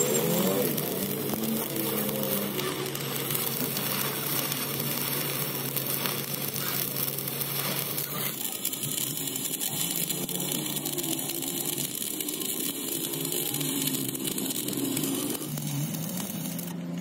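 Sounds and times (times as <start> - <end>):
welding arc crackling and sizzling: 0.0 - 17.0.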